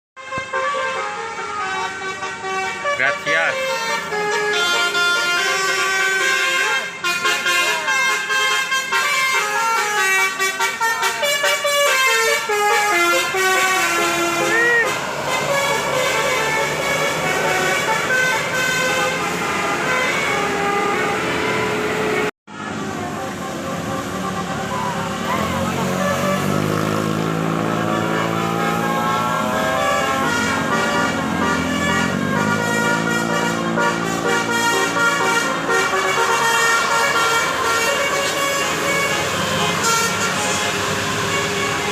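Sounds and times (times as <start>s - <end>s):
bus musical horn tune: 0.2s - 41.9s.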